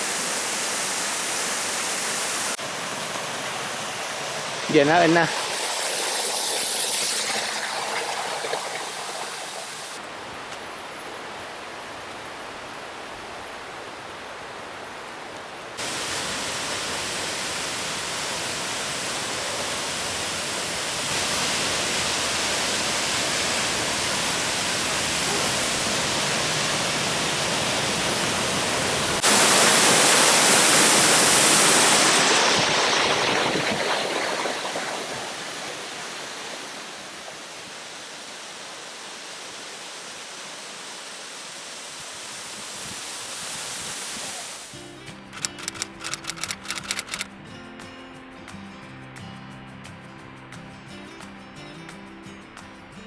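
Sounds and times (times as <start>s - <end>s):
waterfall and creek rushing: 0.0s - 44.8s.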